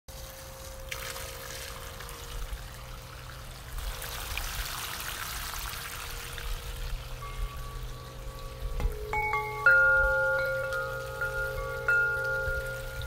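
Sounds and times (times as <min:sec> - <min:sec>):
faint steady hum: 0:00.1 - 0:13.0
running water rushing: 0:00.1 - 0:13.0.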